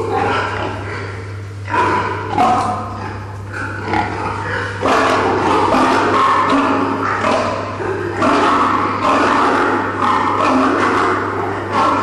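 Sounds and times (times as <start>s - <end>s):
pigs grunting and squealing: 0.0s - 12.0s
steady low hum: 0.0s - 12.0s.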